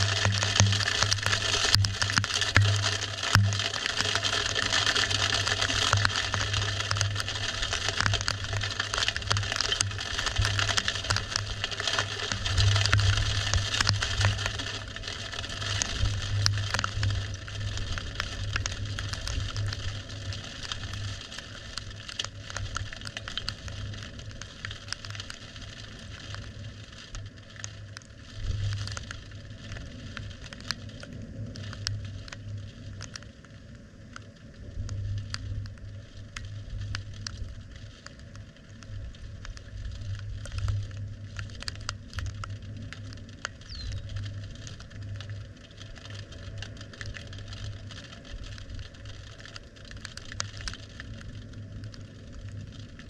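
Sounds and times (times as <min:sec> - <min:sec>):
rain crackling on surfaces: 0:00.0 - 0:53.0.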